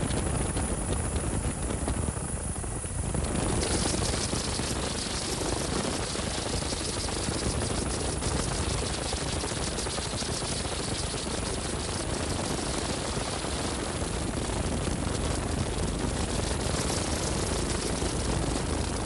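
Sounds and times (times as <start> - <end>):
helicopter rotor chop: 0.0 - 19.0.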